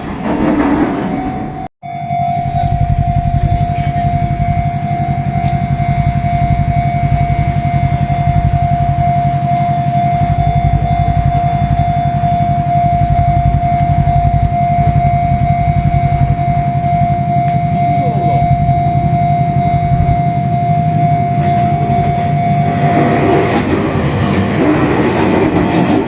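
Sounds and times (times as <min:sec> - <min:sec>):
level crossing alarm ringing: 0:00.0 - 0:26.0
pulsing low rumble: 0:01.9 - 0:26.0.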